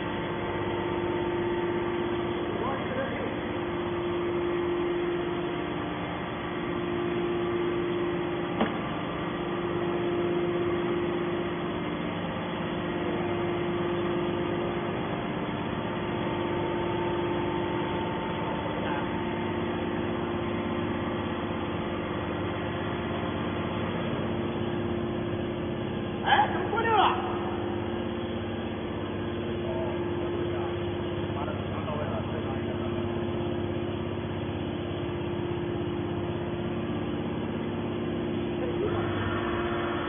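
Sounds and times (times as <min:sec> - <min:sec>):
electric motor and pump humming: 0:00.0 - 0:40.0.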